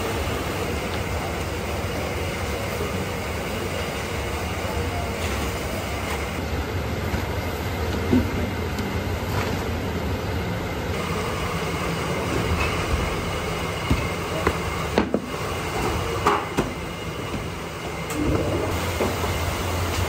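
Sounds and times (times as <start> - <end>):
electric fans running: 0.0 - 20.0
machinery rumble and hum: 0.0 - 20.0.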